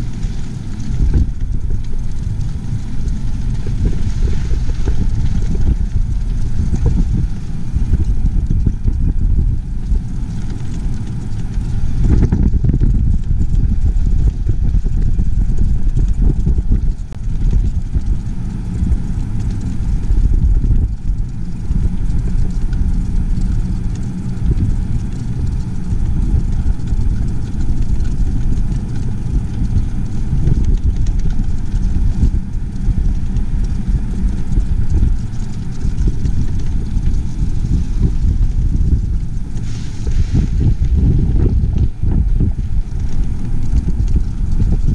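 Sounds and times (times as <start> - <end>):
low wind buffeting: 0.0 - 44.9
moving vehicle rumble: 0.0 - 44.9.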